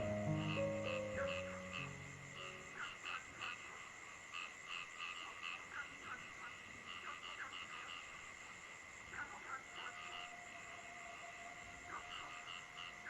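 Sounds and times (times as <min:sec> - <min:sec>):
lower frog calls: 0:00.0 - 0:08.3, 0:09.3 - 0:13.0
frogs croaking: 0:00.0 - 0:13.0.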